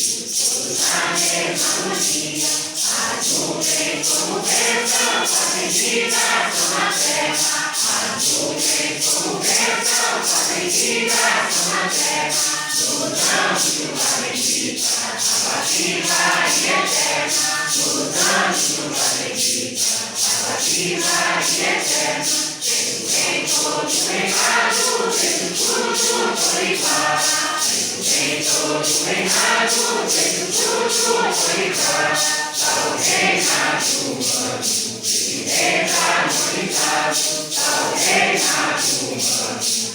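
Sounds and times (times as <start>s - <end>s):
congregation singing a hymn: 0.0s - 39.9s
maracas shaken: 0.0s - 39.9s.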